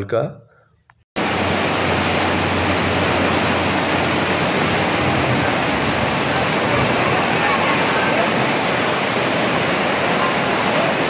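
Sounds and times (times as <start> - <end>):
floodwater rushing: 1.2 - 11.0.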